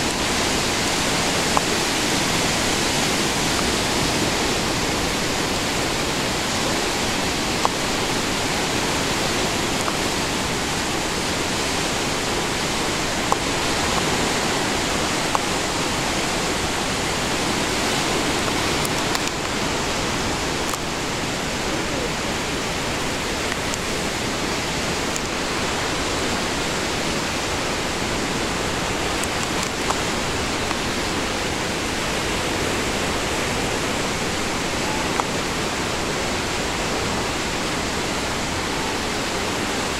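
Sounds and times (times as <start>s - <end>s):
whitewater river roaring: 0.0s - 39.9s.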